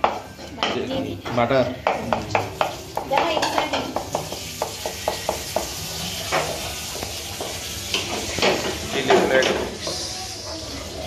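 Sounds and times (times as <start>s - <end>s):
roux sizzling: 0.0s - 11.0s.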